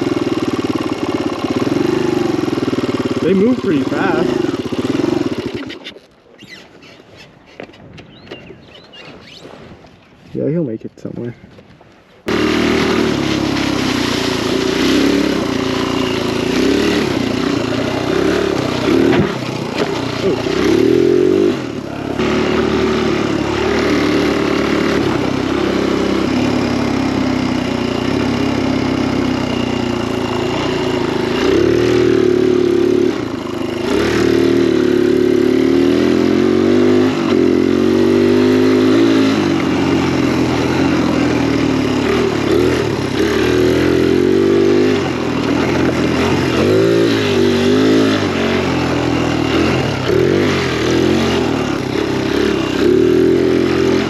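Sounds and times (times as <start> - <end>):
dirt bike engine revving: 0.0 - 6.0, 12.3 - 54.0.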